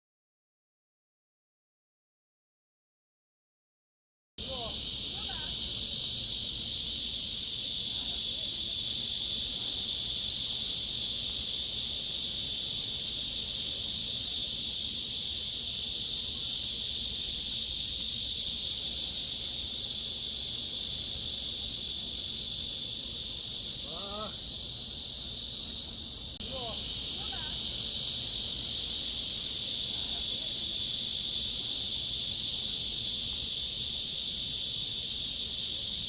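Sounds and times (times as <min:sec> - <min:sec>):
cicadas buzzing: 0:04.4 - 0:36.0.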